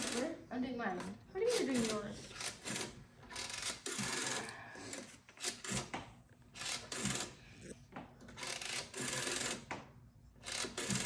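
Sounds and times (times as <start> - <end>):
rotary dial whirring and clicking: 0.0 - 11.0.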